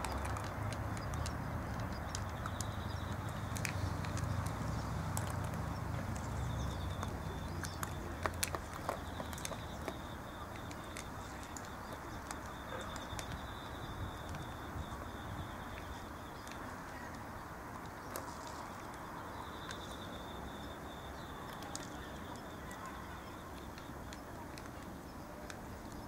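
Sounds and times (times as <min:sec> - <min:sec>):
cats chewing and lapping: 0:00.0 - 0:26.0.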